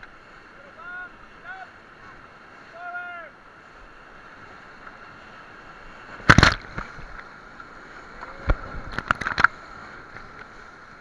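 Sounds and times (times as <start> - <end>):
water splashing on raft: 0.0 - 11.0
whitewater rapids rushing: 0.0 - 11.0.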